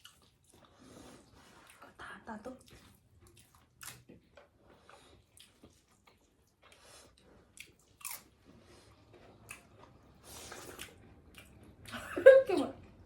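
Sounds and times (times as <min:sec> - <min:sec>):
food being chewed: 0:00.0 - 0:02.0, 0:02.6 - 0:12.0.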